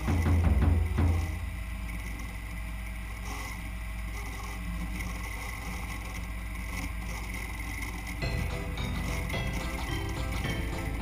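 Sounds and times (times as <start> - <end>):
lathe running with high tone: 0.0 - 11.0.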